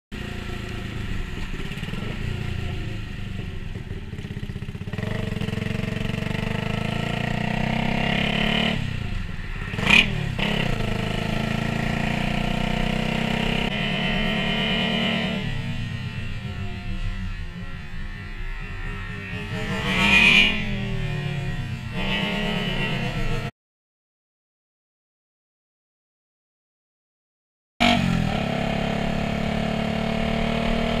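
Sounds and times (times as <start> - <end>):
motorcycle engine running: 0.1 - 23.5, 27.8 - 31.0.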